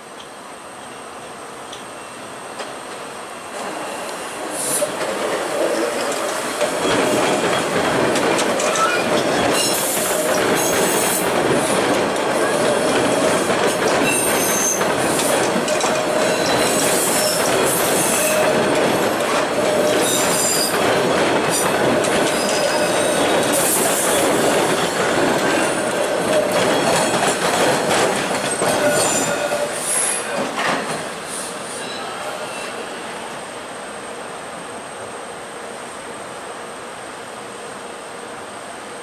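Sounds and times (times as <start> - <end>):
subway train wheels rumbling: 0.0 - 39.0.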